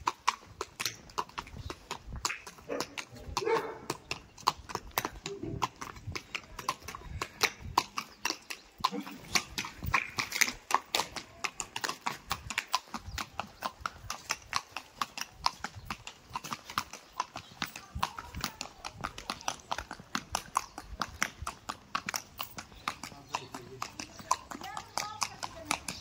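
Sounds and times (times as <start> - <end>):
horse hooves clip-clopping: 0.0 - 26.0.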